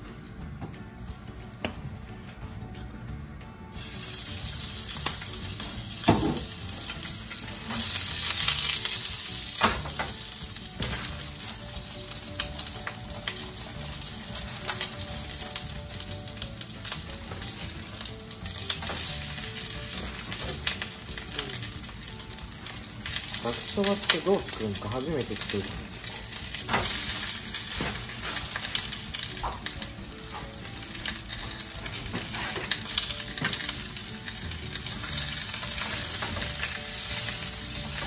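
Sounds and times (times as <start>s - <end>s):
sausages sizzling in a frying pan: 3.7s - 38.0s.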